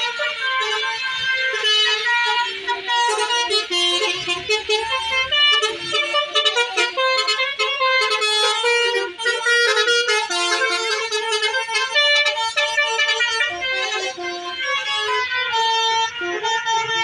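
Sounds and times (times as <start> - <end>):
musical air horns playing a tune: 0.0 - 17.0.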